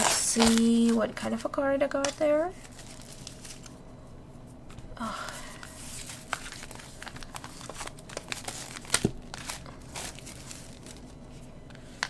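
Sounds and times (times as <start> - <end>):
paper and plastic crinkling: 0.0 - 3.9, 4.7 - 12.0.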